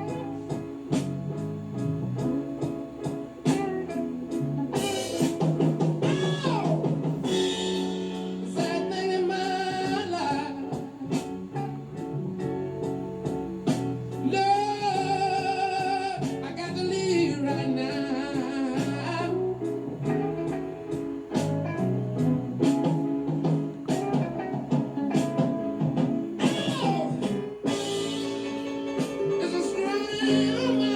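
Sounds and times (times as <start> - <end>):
song with vocals and guitar: 0.0 - 30.9.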